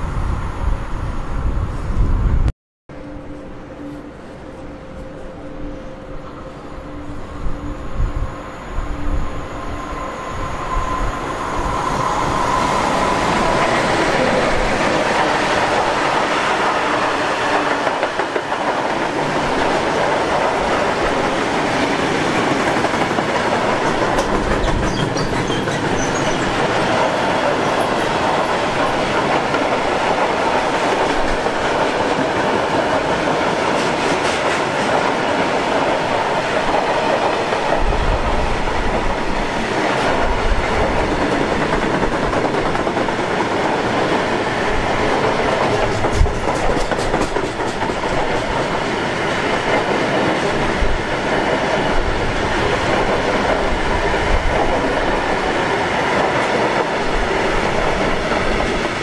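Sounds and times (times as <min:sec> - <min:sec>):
train wheels clattering on rails: 0:11.7 - 0:59.0.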